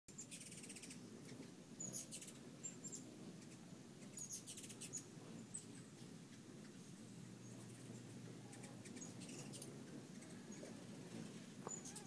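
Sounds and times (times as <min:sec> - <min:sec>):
hummingbirds chattering chips: 0:00.1 - 0:12.0.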